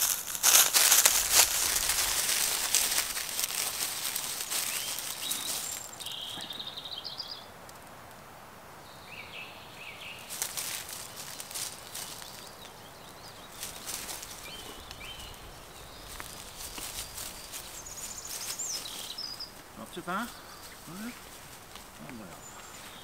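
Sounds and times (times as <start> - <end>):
rustling and crackling: 0.0 - 6.6, 10.2 - 23.0
birds singing: 1.6 - 7.6, 8.8 - 23.0.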